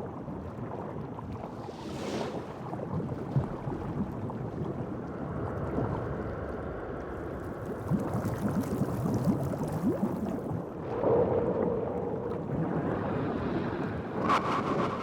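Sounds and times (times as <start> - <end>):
bubbly gurgles: 0.0 - 14.9.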